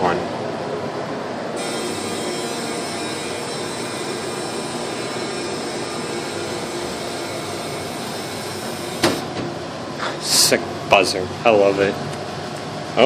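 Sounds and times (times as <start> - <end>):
fan-like whooshing hum: 0.0 - 13.0.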